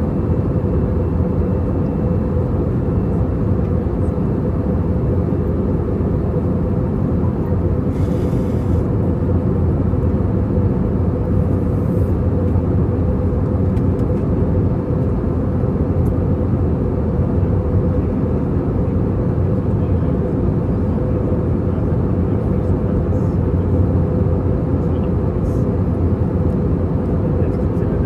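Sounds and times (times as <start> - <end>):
airplane cabin drone: 0.0 - 28.0.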